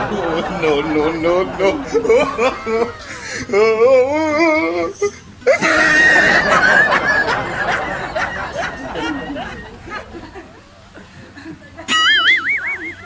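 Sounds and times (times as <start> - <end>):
women laughing: 0.0 - 13.0.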